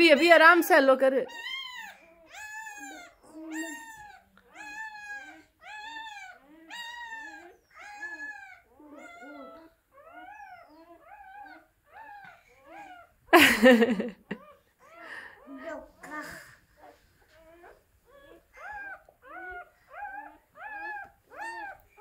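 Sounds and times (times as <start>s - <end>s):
puppies crying: 0.0s - 22.0s.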